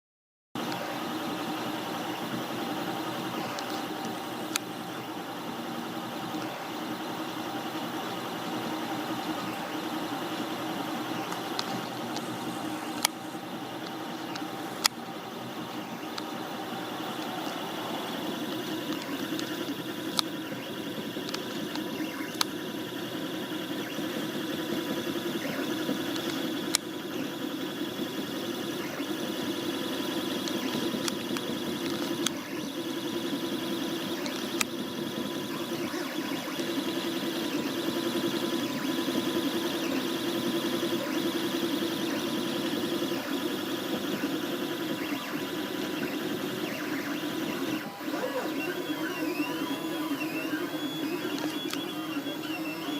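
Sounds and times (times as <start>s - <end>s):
printer stepper motors whining: 0.6s - 52.9s.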